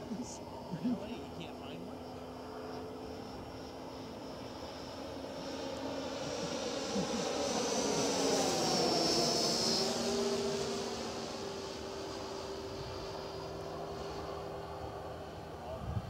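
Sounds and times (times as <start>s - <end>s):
model plane engine and propeller drone: 0.0s - 16.0s.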